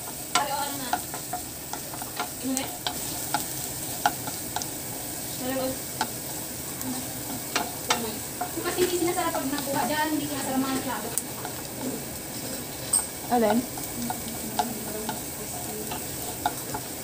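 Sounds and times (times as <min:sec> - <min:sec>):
garlic sizzling in hot oil: 0:00.0 - 0:17.0
spatula tapping and scraping pan: 0:00.0 - 0:17.0.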